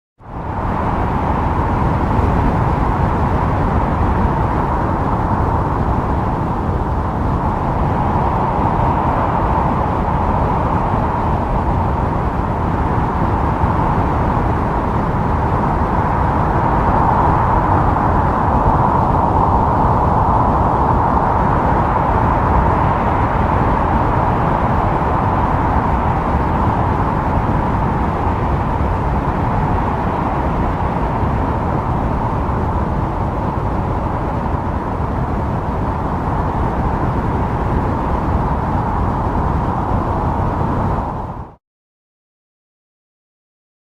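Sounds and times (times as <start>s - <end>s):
wind blowing: 0.2s - 41.6s.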